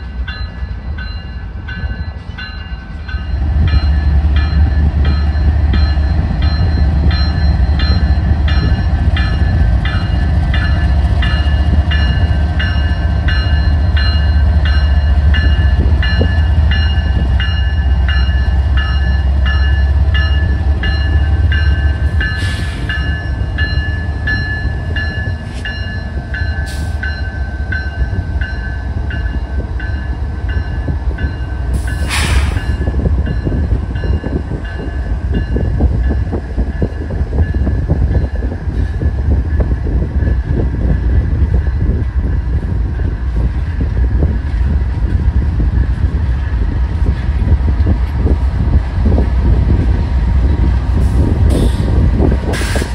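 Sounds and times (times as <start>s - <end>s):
crossing bell dinging: 0.0s - 45.2s
diesel locomotives rumbling past: 0.0s - 52.9s.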